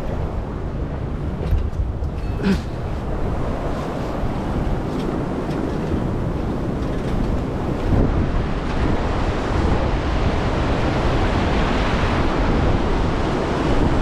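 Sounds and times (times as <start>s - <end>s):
ocean surf washing: 0.0s - 14.0s
wind buffeting microphone: 0.0s - 14.0s.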